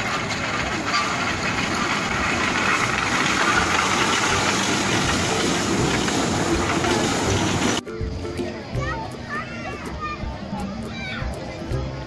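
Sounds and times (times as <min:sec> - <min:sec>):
miniature train engine running: 0:00.0 - 0:12.0.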